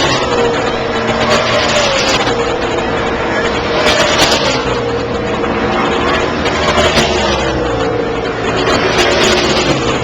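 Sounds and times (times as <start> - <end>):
race truck engines at full speed: 0.0 - 10.0
race truck passing by: 0.0 - 10.0.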